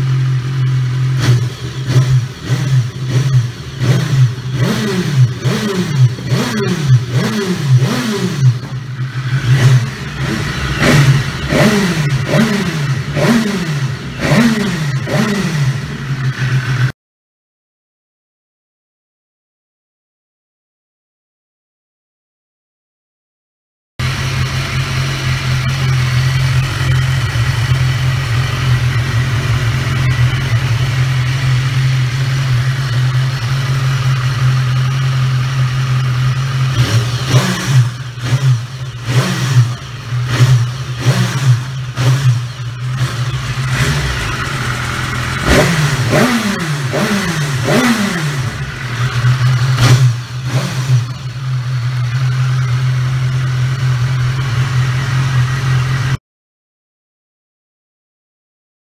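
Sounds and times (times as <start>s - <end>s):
engine throttle blips: 0.0s - 16.9s, 24.0s - 56.2s
motorcycle engine idling: 0.0s - 16.9s, 24.0s - 56.2s.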